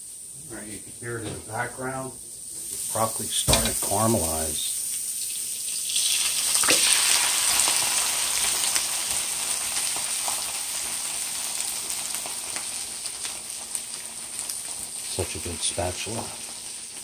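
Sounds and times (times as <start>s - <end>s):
broccoli sizzling in a pan: 0.0s - 0.8s, 1.4s - 17.0s.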